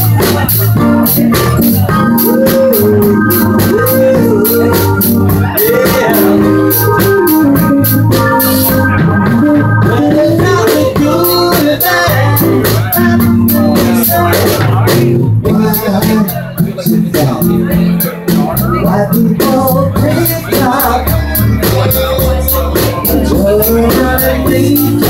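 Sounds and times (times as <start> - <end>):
bass line: 0.0 - 25.0
electric organ keyboard: 0.0 - 25.0
ticking percussion rhythm: 0.0 - 25.0.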